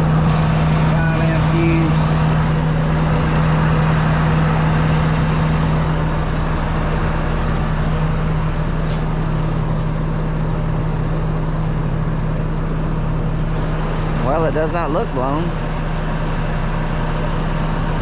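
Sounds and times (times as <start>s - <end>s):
harvester engine droning: 0.0s - 18.0s.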